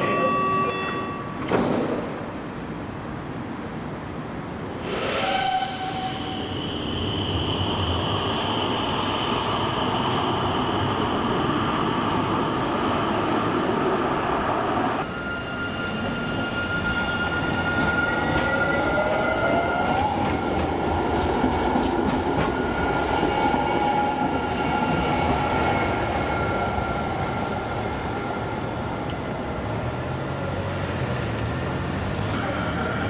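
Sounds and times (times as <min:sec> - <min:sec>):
electric tram whine: 0:03.7 - 0:33.0.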